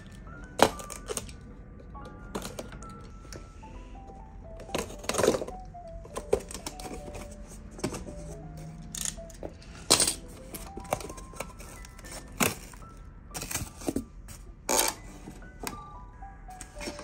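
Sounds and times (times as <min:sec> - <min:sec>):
light background music: 0:00.0 - 0:17.0.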